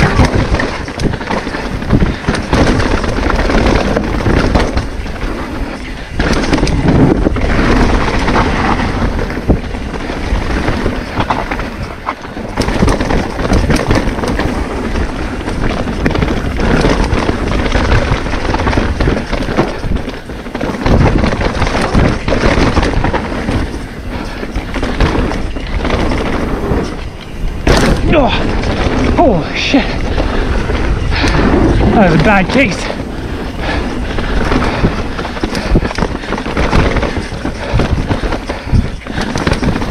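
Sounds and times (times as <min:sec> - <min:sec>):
bike clattering knocks: 0:00.0 - 0:39.9
bike tyres rumbling over dirt: 0:00.0 - 0:39.9
wind buffeting microphone: 0:00.0 - 0:39.9.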